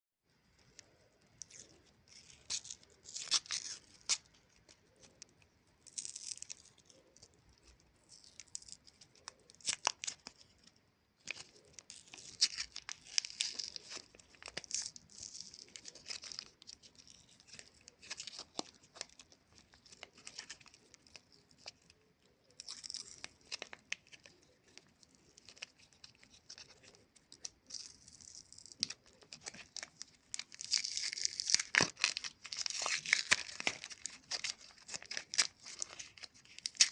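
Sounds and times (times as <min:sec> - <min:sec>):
plastic wrappers crinkling: 0:00.7 - 0:36.9.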